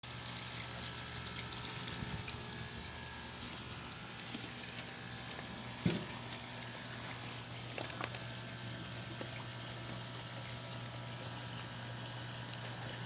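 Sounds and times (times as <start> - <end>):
water bubbling: 0.4 - 13.0.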